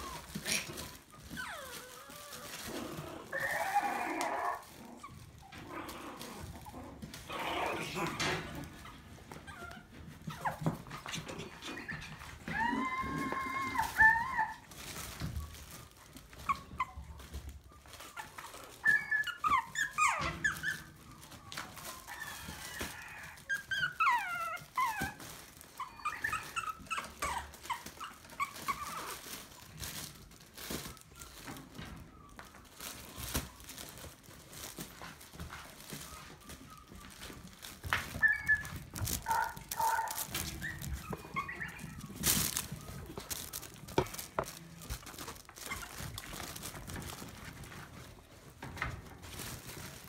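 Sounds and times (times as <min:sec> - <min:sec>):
puppies whining and yipping: 0:00.0 - 0:50.0.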